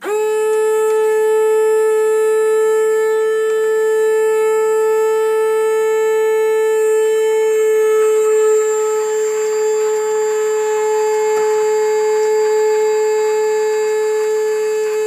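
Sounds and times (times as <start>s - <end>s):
electric pump motor whining: 0.0s - 15.0s.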